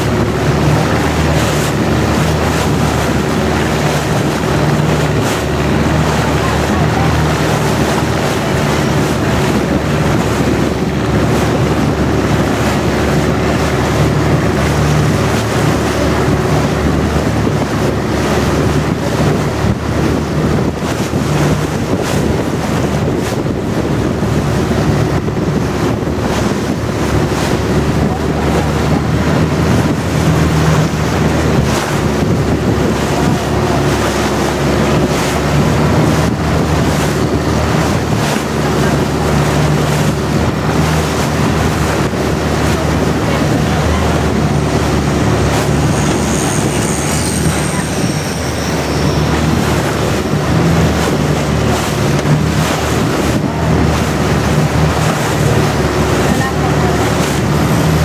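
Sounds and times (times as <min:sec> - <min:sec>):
boat engine drone: 0:00.0 - 0:58.0
water rushing past hull: 0:00.0 - 0:58.0
wind buffeting microphone: 0:00.0 - 0:58.0.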